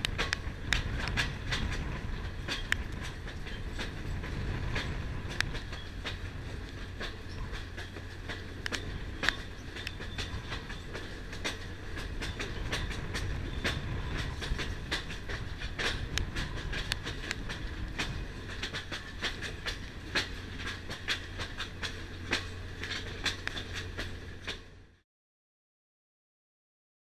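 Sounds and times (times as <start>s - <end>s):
sharp clicks and rattles: 0.0s - 24.6s
train wheels rumbling on rails: 0.0s - 25.0s.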